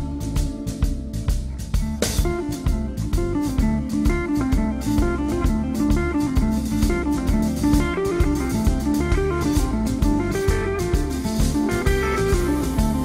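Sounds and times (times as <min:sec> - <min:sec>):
bass guitar: 0:00.0 - 0:13.0
drum kit: 0:00.0 - 0:13.0
electric guitar lead: 0:00.0 - 0:13.0.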